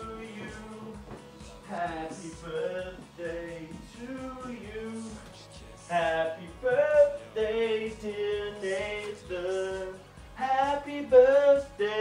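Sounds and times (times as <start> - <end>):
low beat: 0.0 - 12.0
man singing pop song: 0.0 - 12.0.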